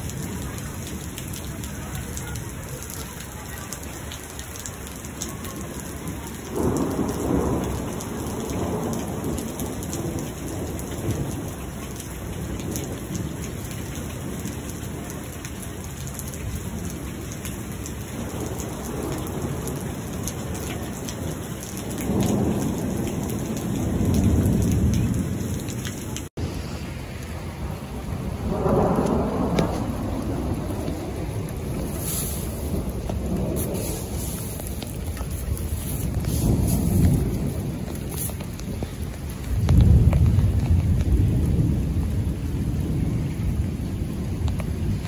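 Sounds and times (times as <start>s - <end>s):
thunder rolling: 0.0s - 15.2s, 18.2s - 45.0s
heavy rain pouring: 0.0s - 45.0s.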